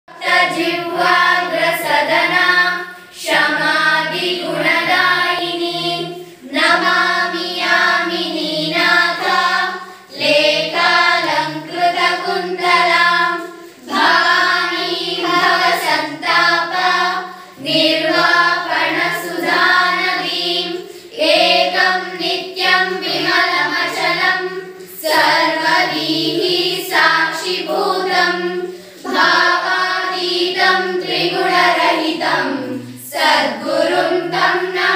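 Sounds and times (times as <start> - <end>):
children singing together: 0.1 - 34.9.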